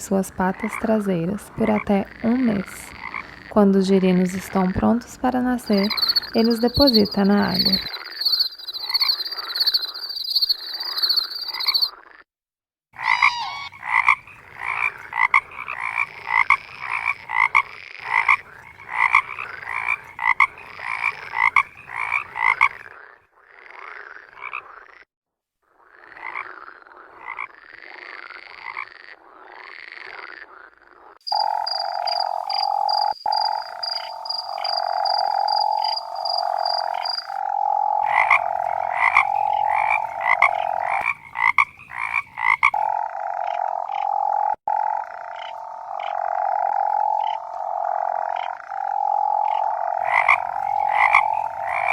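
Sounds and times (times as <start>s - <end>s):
frogs croaking: 0.0s - 12.2s, 13.0s - 25.1s, 25.7s - 51.9s.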